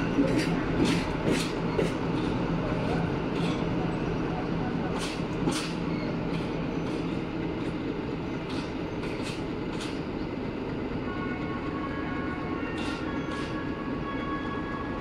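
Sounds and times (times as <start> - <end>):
diesel train engine drone: 0.0 - 15.0.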